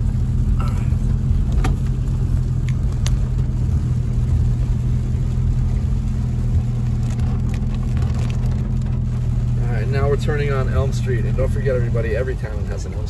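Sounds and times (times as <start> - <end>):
car engine and tyres on wet road: 0.0 - 13.0.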